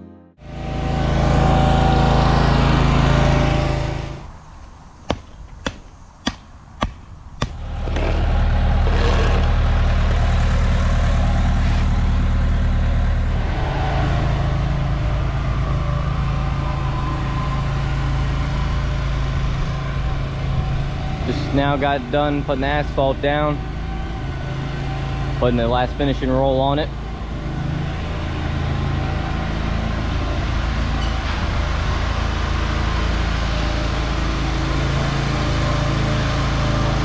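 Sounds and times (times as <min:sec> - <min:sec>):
heavy equipment engine running: 0:00.0 - 0:05.1, 0:05.9 - 0:37.0.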